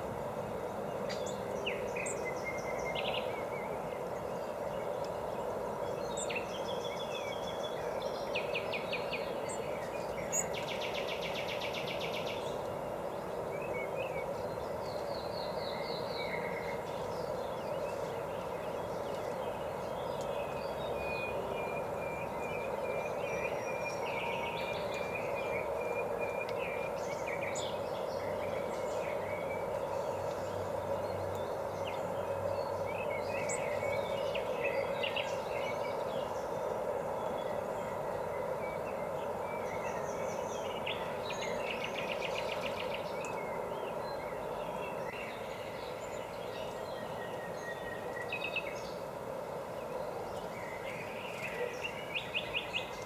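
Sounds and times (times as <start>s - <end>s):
songbirds singing: 0.5s - 53.0s.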